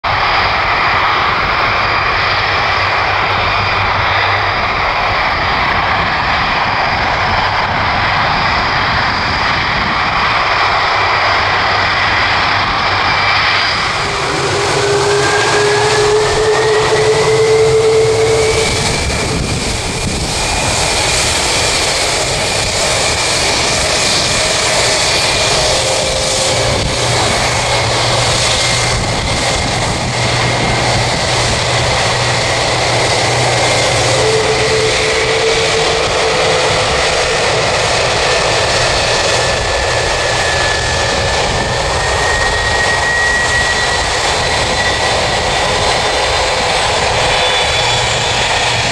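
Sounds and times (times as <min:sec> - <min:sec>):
jet engines running: 0:00.0 - 0:48.9
whine rising in pitch: 0:00.1 - 0:48.9.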